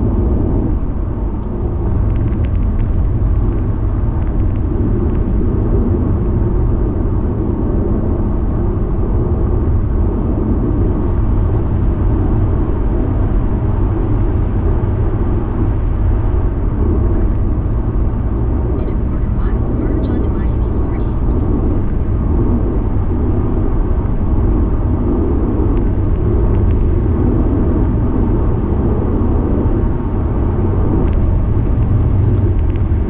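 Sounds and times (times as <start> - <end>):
car engine: 0.0 - 33.0
tyre and road noise: 0.0 - 33.0.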